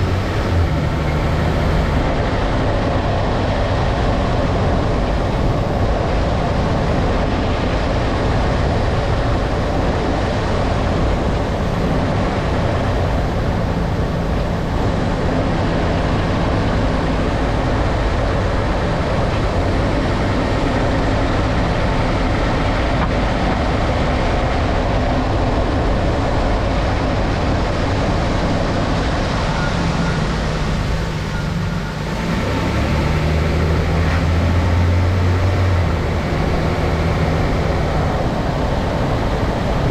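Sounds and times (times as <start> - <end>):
engine rumble: 0.0 - 39.9
road noise: 0.0 - 39.9.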